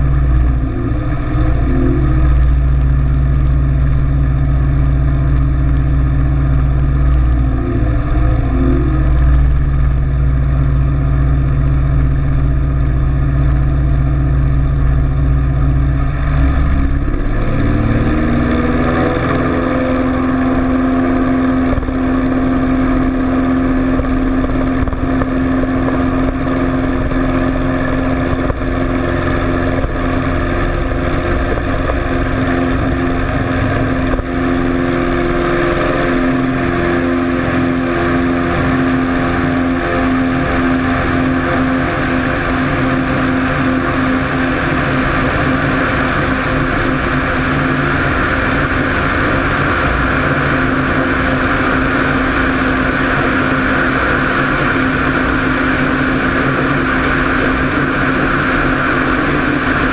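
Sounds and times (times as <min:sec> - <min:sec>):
propeller plane engine: 0:00.0 - 0:59.9.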